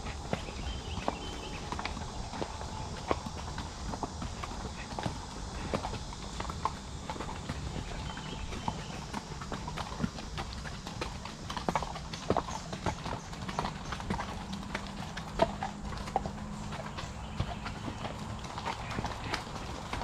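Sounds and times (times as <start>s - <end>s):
horse hoofbeats on dirt: 0.0s - 20.0s.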